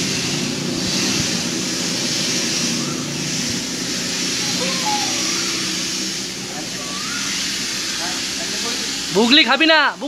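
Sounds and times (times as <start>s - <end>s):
rushing background hiss: 0.0s - 10.0s.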